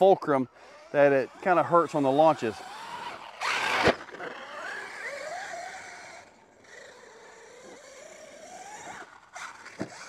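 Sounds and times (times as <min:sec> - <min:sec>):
electric motor whine: 0:00.4 - 0:10.0.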